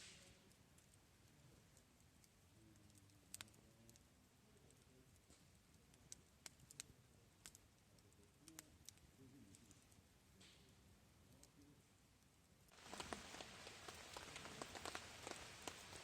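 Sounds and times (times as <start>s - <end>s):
faint sharp clicks and crackles: 0.0s - 16.0s.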